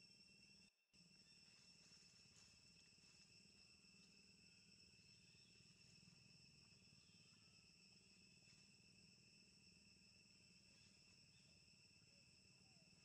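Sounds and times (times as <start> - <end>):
faint low hum: 0.0 - 13.0
insects trilling: 0.0 - 13.0.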